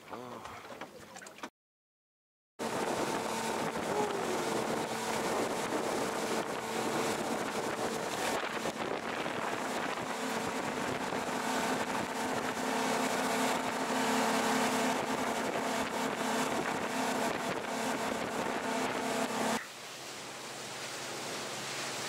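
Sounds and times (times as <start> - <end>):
boat engine drone: 2.6 - 22.0
water rushing in boat wake: 2.6 - 22.0.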